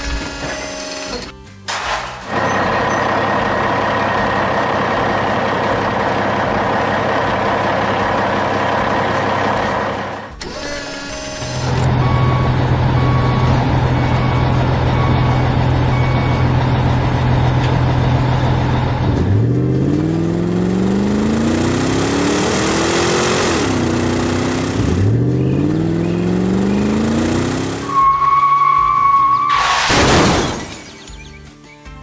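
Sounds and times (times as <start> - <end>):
heavy construction vehicle engine revving: 0.0 - 31.2.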